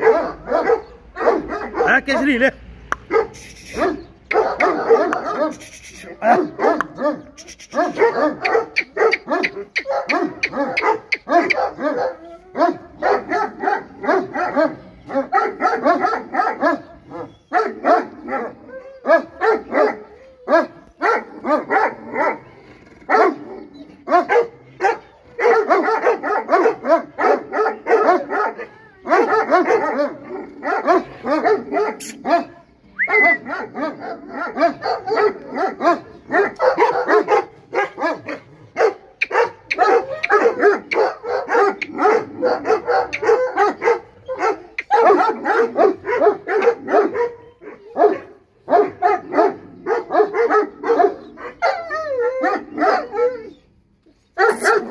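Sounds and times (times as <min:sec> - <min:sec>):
dogs barking: 0:00.0 - 0:54.9.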